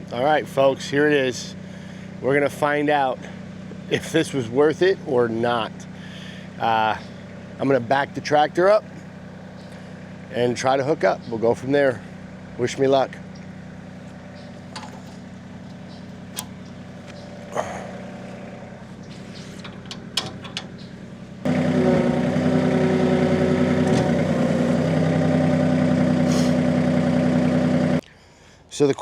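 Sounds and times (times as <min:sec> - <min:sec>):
tractor diesel engine running: 0:00.0 - 0:28.1.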